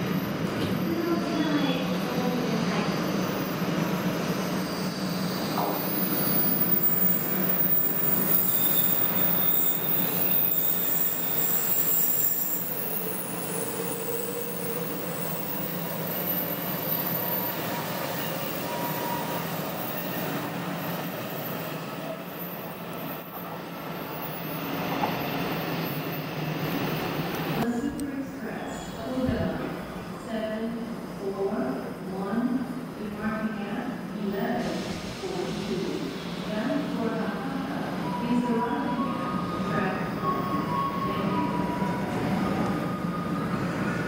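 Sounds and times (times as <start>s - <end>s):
high-speed train passing: 0.0s - 44.0s.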